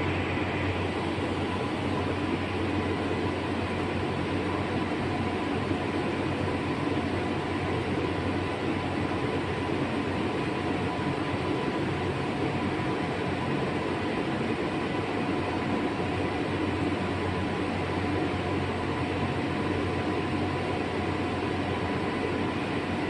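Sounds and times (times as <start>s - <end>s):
faint steady whines: 0.0s - 23.0s
machinery rumble and hiss: 0.0s - 23.0s.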